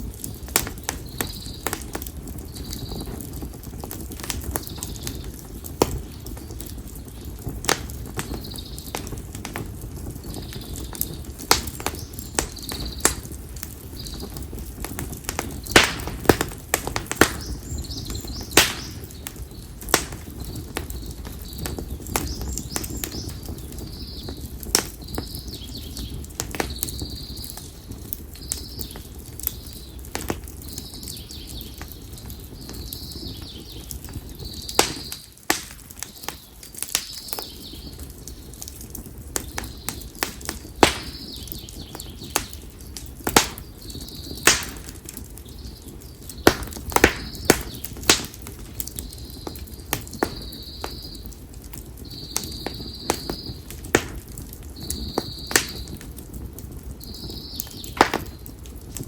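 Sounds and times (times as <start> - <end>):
campfire crackling and popping: 0.0 - 59.0
low rumble of flame: 0.0 - 59.0.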